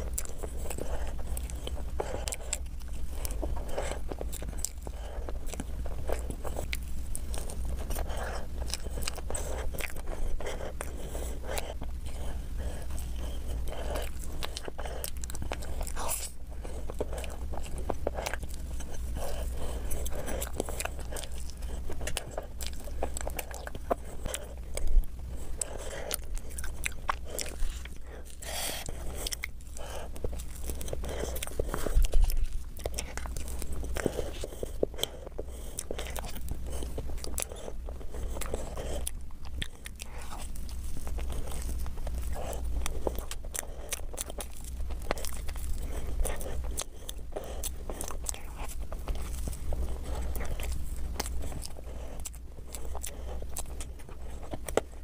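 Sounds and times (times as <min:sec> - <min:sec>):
person chewing: 0:00.0 - 0:55.0
steady low hum: 0:00.0 - 0:55.0.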